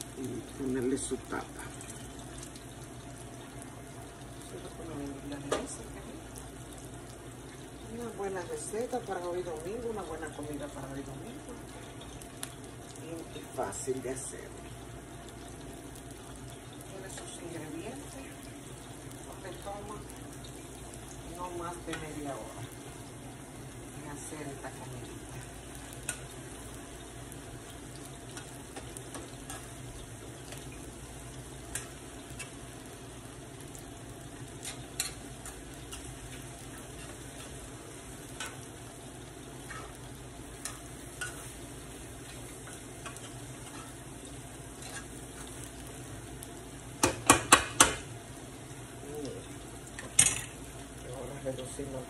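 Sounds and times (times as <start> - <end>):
plantain slices sizzling in oil: 0.0 - 52.0.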